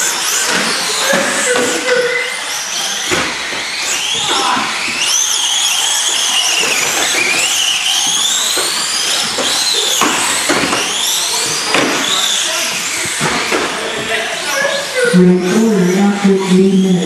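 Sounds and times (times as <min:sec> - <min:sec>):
model car motors whining: 0:00.0 - 0:17.0.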